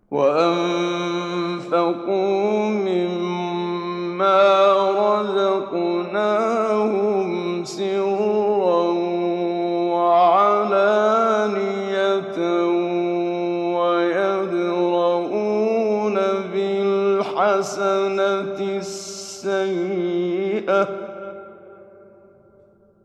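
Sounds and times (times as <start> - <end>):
man chanting melodically: 0.0 - 22.0.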